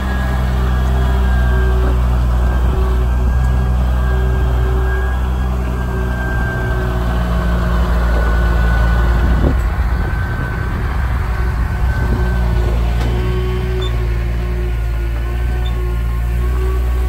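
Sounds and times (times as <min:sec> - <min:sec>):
truck diesel engine low drone: 0:00.0 - 0:17.0.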